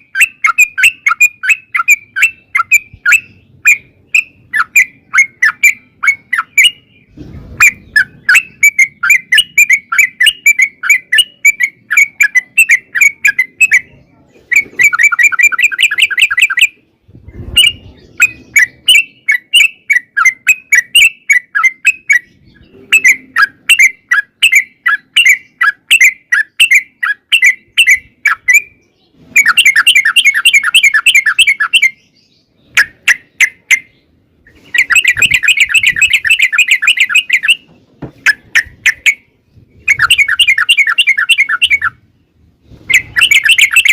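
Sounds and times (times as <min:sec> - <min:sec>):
bird singing rolling song: 0:00.0 - 0:43.9.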